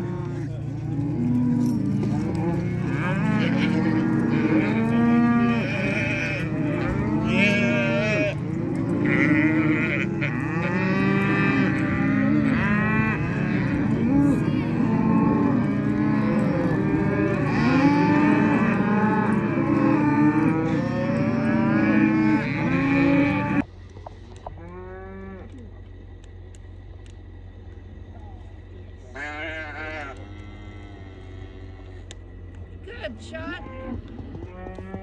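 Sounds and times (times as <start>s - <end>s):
cows bawling: 0.0s - 23.7s, 29.1s - 35.0s.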